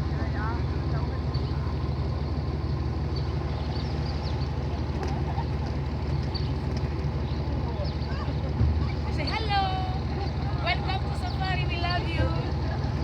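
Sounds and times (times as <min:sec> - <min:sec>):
tractor engine humming: 0:00.0 - 0:13.0.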